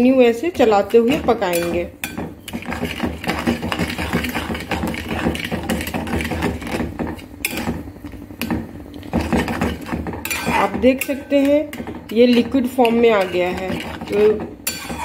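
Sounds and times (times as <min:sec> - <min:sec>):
wooden spatula scraping metal pan: 0:00.6 - 0:07.8, 0:09.1 - 0:15.0.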